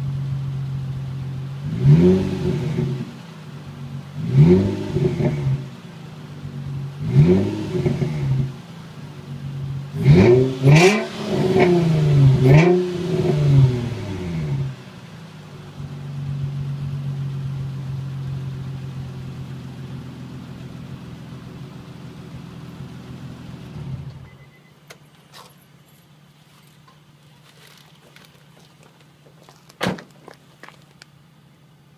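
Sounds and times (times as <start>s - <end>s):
car engine revving and idling: 0.0s - 31.9s.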